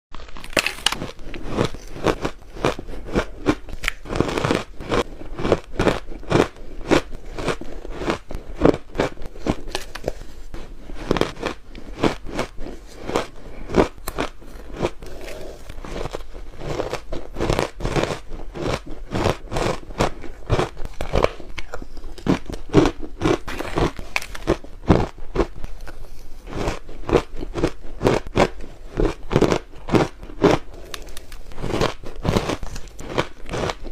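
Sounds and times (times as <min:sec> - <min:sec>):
ice being chewed: 0:00.1 - 0:33.9.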